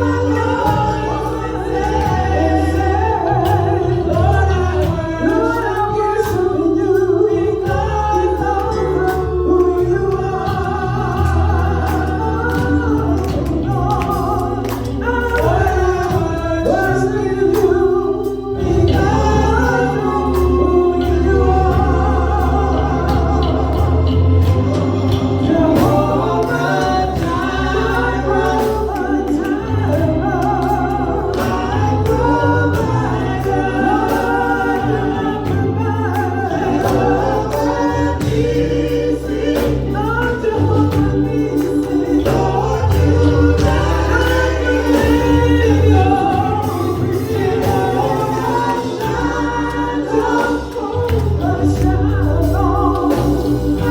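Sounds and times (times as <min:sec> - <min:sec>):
bass: 0:00.0 - 0:53.9
gospel choir singing: 0:00.0 - 0:53.9
keyboard accompaniment: 0:00.0 - 0:53.9.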